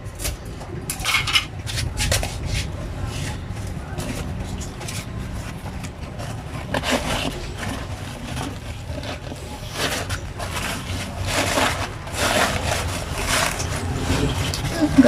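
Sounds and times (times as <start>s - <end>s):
scraping and rubbing noises: 0.0s - 15.0s.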